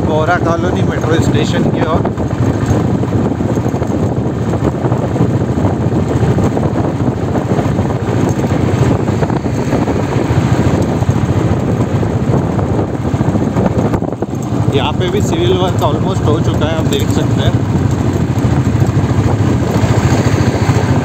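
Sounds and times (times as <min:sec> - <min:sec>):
motorbike engine: 0:00.0 - 0:21.0
road noise: 0:00.0 - 0:21.0
wind buffeting microphone: 0:00.0 - 0:21.0.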